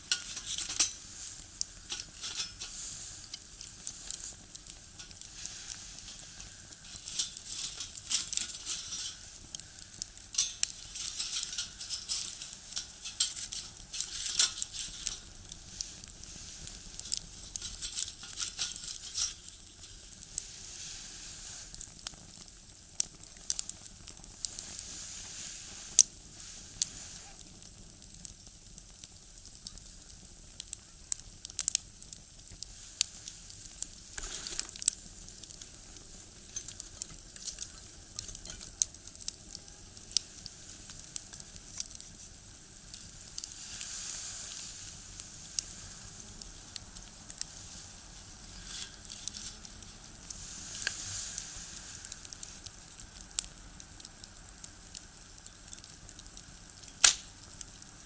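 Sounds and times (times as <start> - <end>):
firewood crackling in a stove: 0.0 - 58.0.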